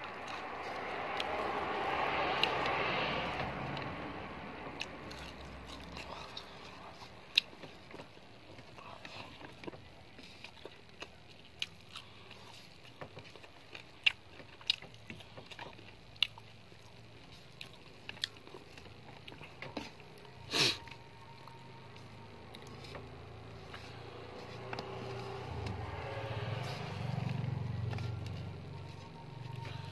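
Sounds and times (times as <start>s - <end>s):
chewing: 0.0s - 2.8s, 4.7s - 29.9s.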